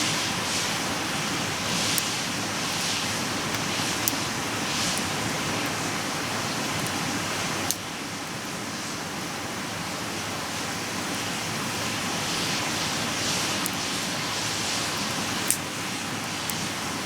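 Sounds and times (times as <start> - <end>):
campfire crackling: 0.1 - 8.0, 10.9 - 17.0.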